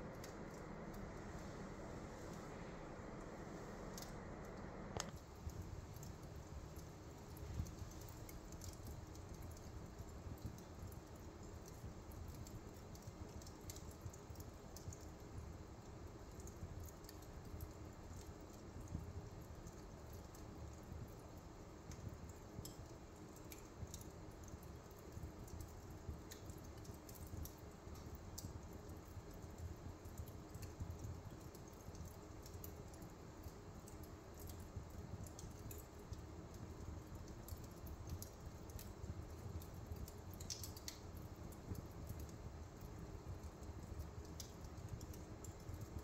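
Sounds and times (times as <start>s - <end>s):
fire low rumble: 0.0s - 46.0s
wood fire crackles and pops: 0.0s - 46.0s.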